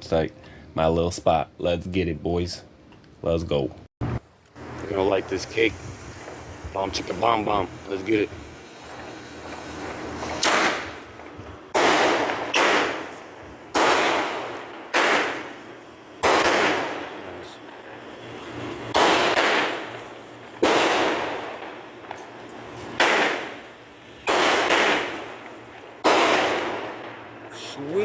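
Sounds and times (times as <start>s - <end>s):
firework bangs with echo: 4.6s - 28.0s.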